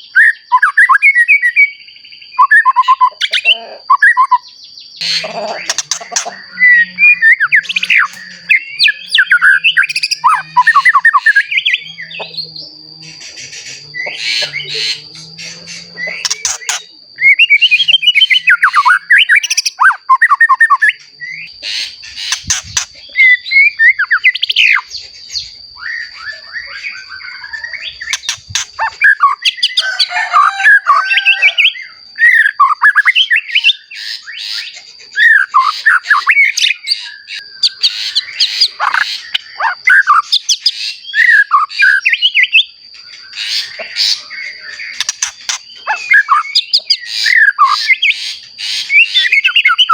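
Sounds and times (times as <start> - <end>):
bird singing whistles and chatter: 0.0 - 49.9.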